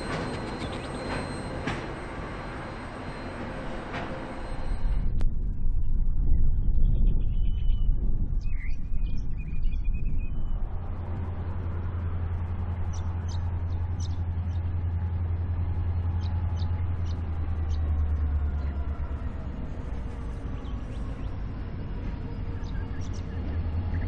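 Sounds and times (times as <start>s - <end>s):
whining tones: 0.0s - 6.8s, 8.0s - 24.0s
locomotive engine drone: 0.0s - 7.3s, 7.9s - 24.0s.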